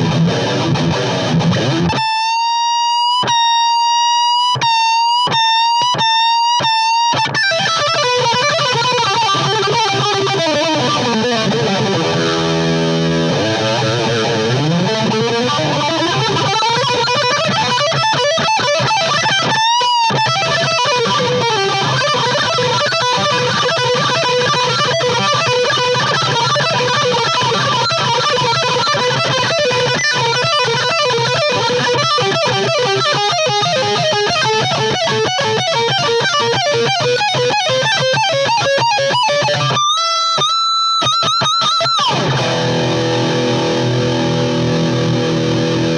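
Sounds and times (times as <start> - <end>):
electric guitar metal riffs: 0.0 - 45.9.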